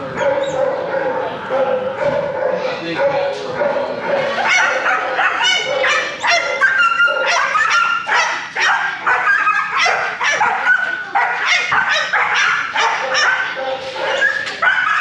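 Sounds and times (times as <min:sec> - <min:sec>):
puppies yipping and barking: 0:00.0 - 0:15.0.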